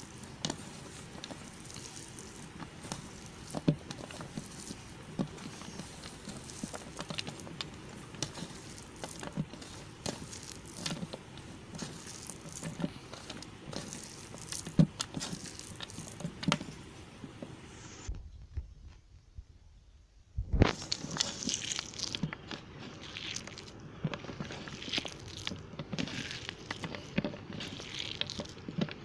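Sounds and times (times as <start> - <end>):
soap crackling when handled: 0.0 - 16.9, 20.6 - 29.0
soap crunch: 0.0 - 16.9, 20.6 - 29.0.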